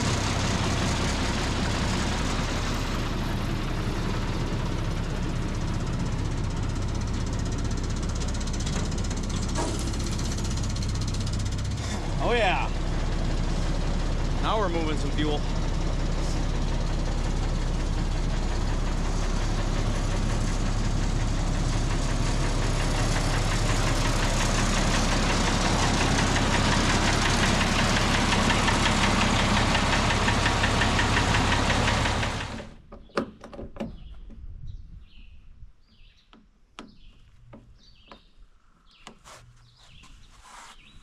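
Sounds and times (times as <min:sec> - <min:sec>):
engine running with rattling clatter: 0:00.0 - 0:34.4.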